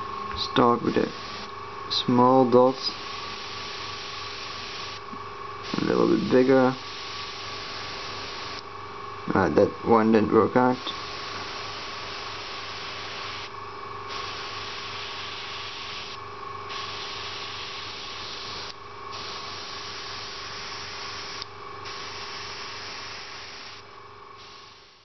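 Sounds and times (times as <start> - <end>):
compressor humming: 0.0 - 25.0
airbrush hissing: 0.4 - 8.6, 10.7 - 25.0.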